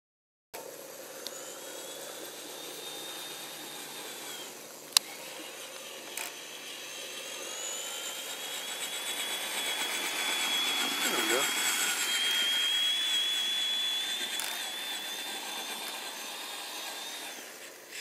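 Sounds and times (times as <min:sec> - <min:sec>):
toy truck motor whining: 0:00.6 - 0:18.0.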